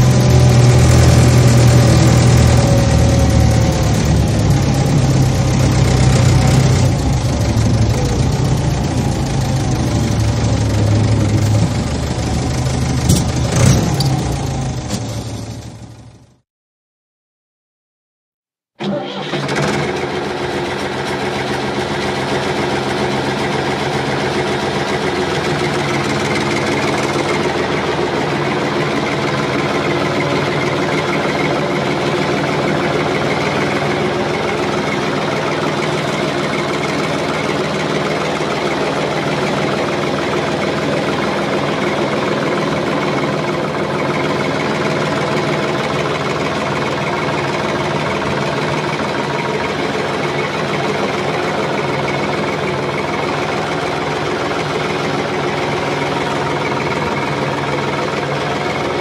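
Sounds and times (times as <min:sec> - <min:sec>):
engine running steadily: 0:00.0 - 0:16.4, 0:18.8 - 0:59.0.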